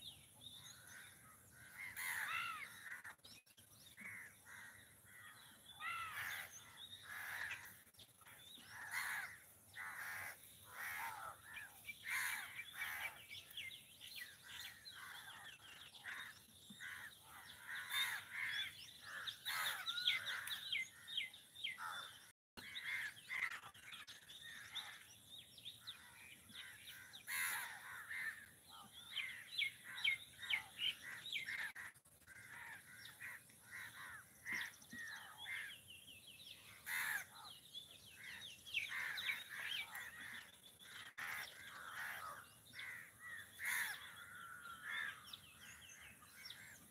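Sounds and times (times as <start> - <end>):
flock of birds chirping: 0.0 - 46.9.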